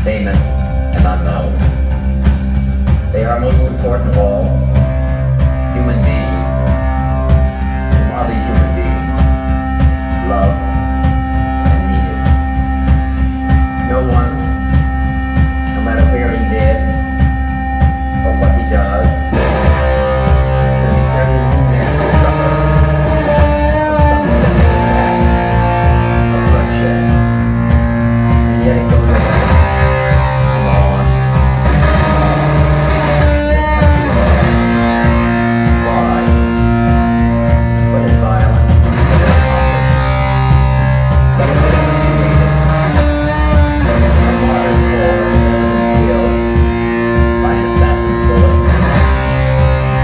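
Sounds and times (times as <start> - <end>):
bass guitar: 0.0 - 50.0
electric guitar chords: 0.0 - 50.0.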